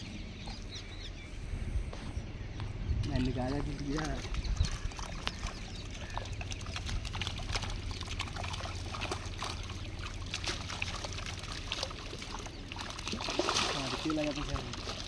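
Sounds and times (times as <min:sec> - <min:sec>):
steady low rumble: 0:00.0 - 0:14.0
water trickling and splashing: 0:02.0 - 0:15.0
small drips and clicks: 0:02.6 - 0:15.0.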